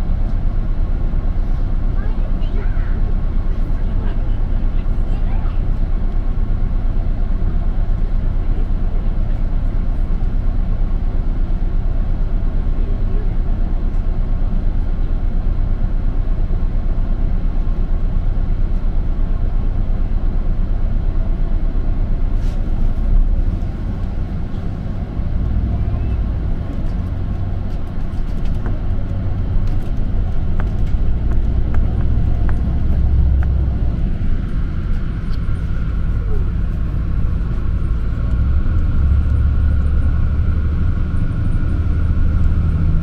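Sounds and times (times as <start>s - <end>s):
bus engine rumbling: 0.0s - 43.0s.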